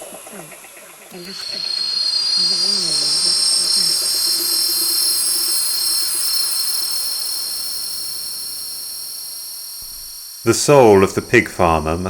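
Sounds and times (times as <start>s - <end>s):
hissing drone with whistling tones: 0.0s - 12.0s
faint low wavering tone: 1.1s - 12.0s.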